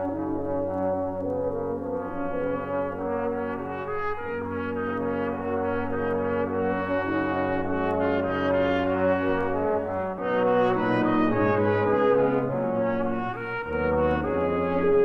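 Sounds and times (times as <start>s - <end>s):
brass playing slow chords: 0.0s - 15.0s.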